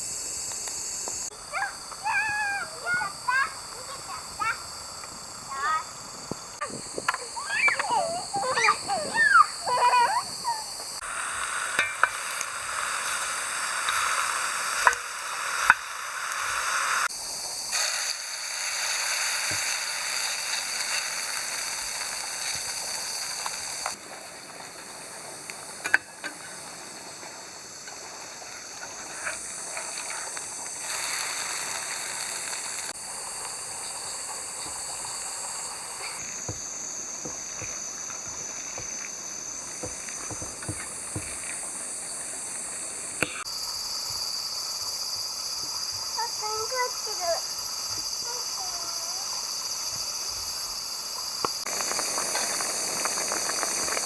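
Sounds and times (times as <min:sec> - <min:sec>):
vegetables sizzling in a pan: 0:00.0 - 0:54.0.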